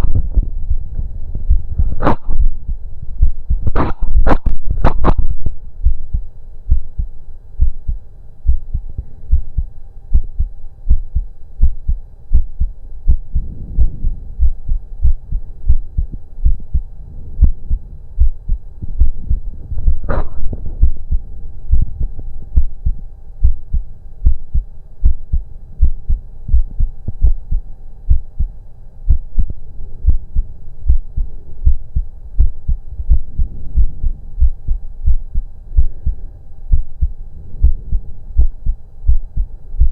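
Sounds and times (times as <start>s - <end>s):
faint steady hum: 0.0s - 39.9s
heartbeat through stethoscope: 0.0s - 39.9s.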